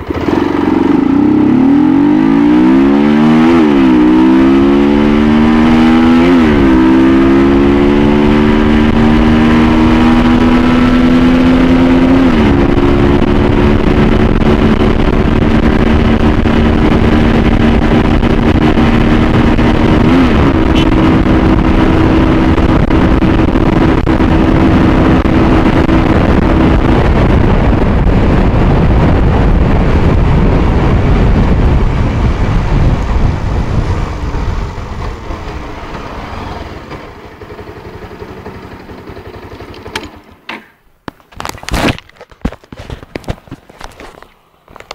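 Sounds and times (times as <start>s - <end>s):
wind rushing over microphone: 0.0s - 37.0s
motorcycle engine running hard: 0.0s - 40.4s.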